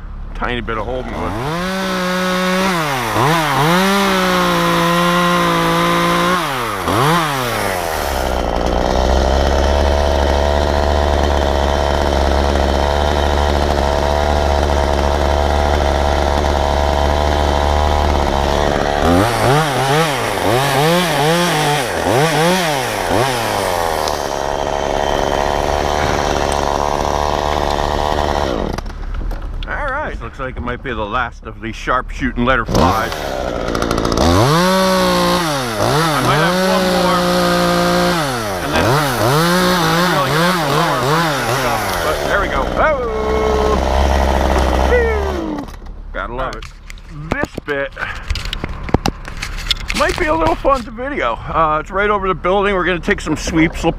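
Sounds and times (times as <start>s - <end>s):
chainsaw revving and idling: 0.4s - 29.2s, 32.7s - 50.9s.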